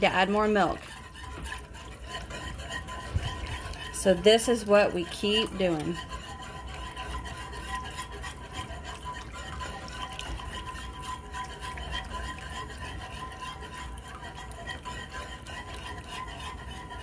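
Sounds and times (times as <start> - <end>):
whisk scraping pan: 0.0 - 17.0
whisk swishing through liquid: 0.0 - 17.0.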